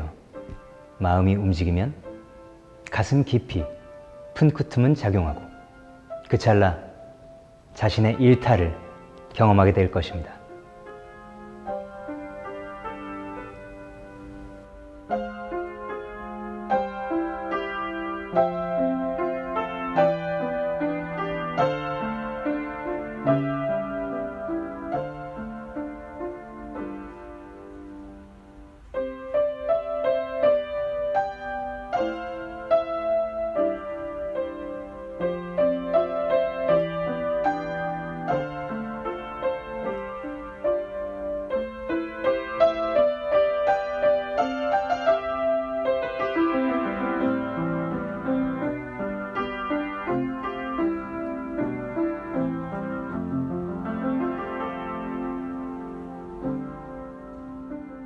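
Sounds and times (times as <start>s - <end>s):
solo piano music: 0.0s - 58.0s.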